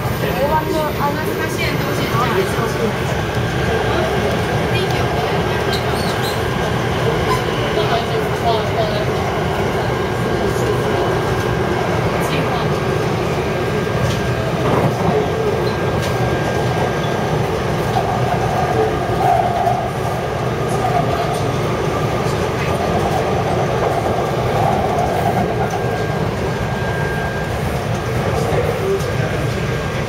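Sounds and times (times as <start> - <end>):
train wheels rumbling: 0.0 - 30.0.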